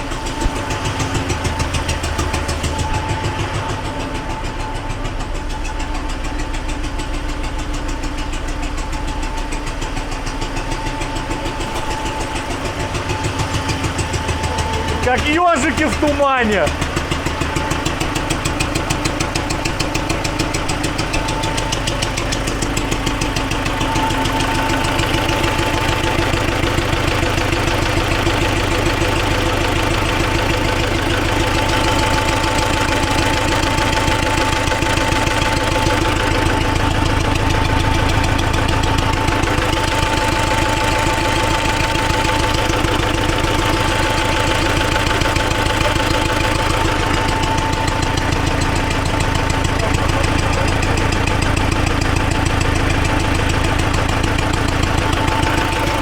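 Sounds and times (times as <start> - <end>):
diesel tractor engine knocking: 0.0 - 56.0.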